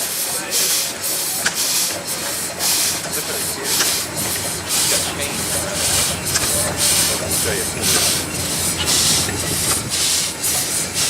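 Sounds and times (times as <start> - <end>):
steam tractor exhaust puffing: 0.0 - 11.0.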